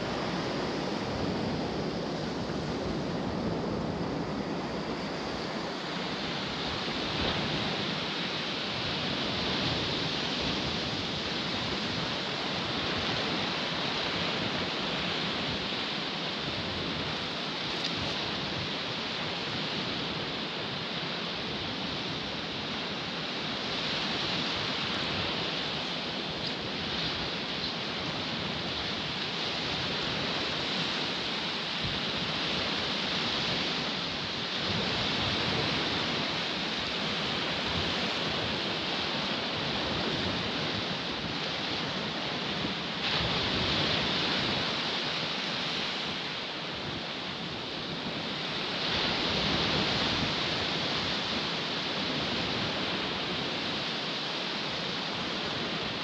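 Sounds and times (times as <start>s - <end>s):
waves breaking on sandy beach: 0.0s - 56.0s.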